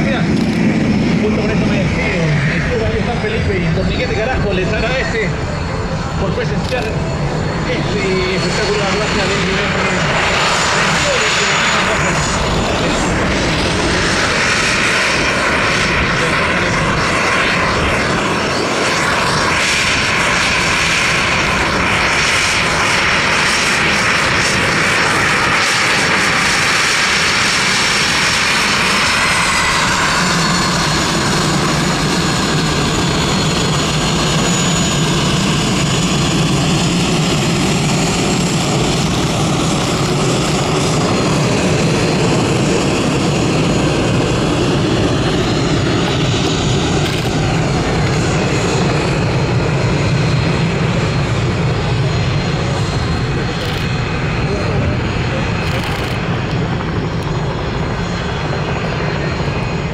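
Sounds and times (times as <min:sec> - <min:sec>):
aircraft engines flying past: 0:00.0 - 0:59.9.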